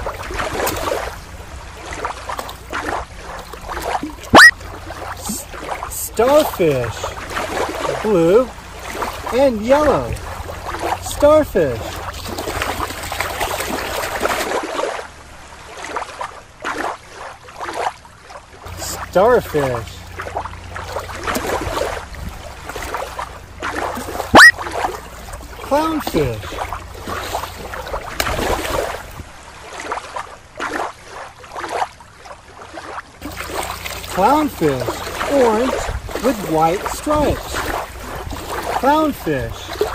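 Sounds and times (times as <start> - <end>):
water splashing: 0.0 - 39.9.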